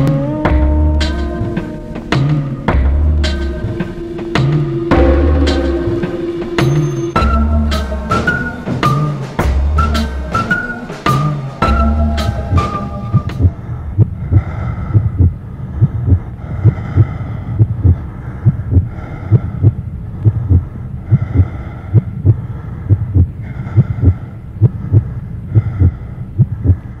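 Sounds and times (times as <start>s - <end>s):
heartbeat thumps: 0.0s - 10.5s, 11.6s - 26.9s.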